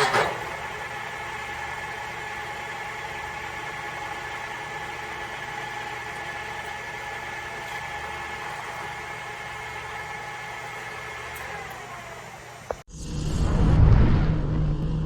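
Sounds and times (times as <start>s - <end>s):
milling machine humming: 0.0s - 12.8s
high gear whine: 0.0s - 15.0s.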